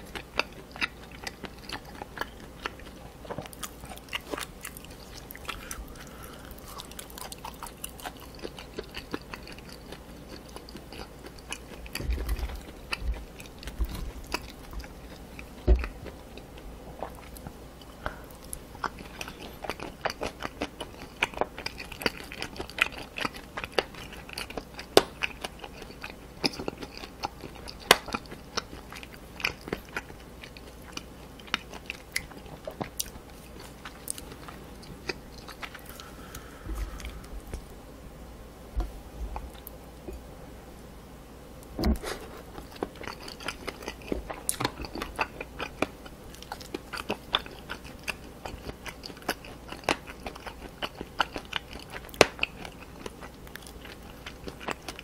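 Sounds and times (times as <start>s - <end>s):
close-miked chewing and crunching: 0.0s - 37.8s, 38.8s - 40.3s, 41.8s - 55.0s.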